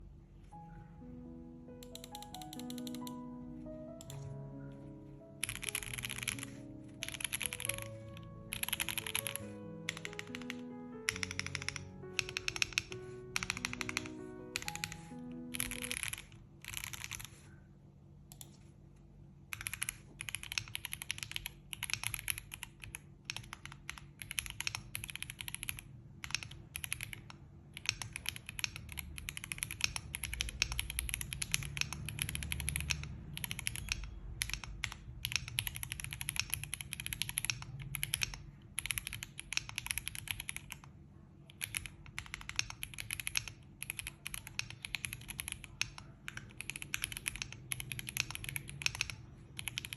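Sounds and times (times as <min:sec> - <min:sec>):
mechanical keyboard typing: 0:01.8 - 0:17.6, 0:19.5 - 0:49.9.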